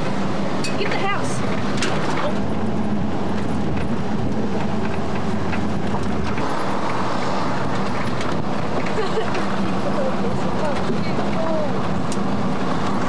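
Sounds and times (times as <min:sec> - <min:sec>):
vehicle engine running: 0:00.0 - 0:13.0
wind rumbling on microphone: 0:00.0 - 0:13.0.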